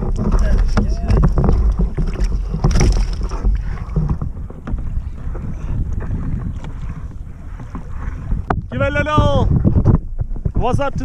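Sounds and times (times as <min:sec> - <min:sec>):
gear knocks and clicks: 0:00.0 - 0:11.0
wind buffeting microphone: 0:00.0 - 0:11.0.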